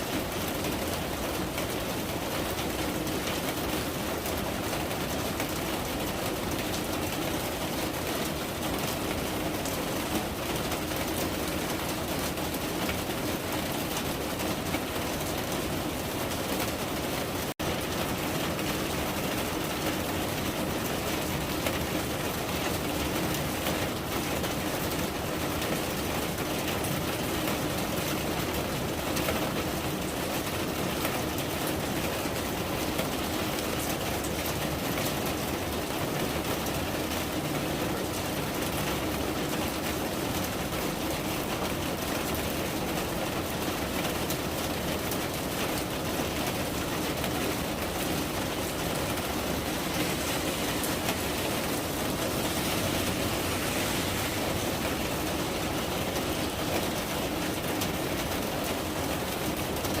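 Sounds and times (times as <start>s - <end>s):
steady rain hiss: 0.0s - 60.0s.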